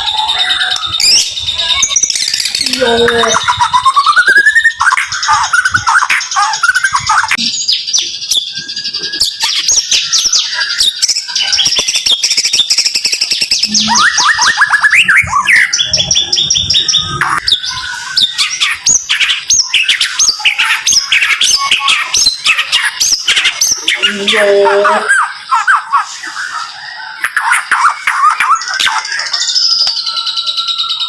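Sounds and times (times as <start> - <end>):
bird singing rapid chirps: 0.0 - 31.0.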